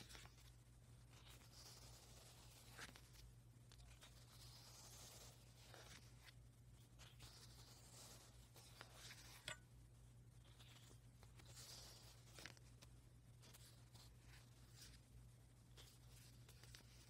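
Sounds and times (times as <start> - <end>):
pages turning rustle: 0.0 - 9.5, 10.4 - 15.0, 15.7 - 17.0
low steady hum: 0.0 - 17.0.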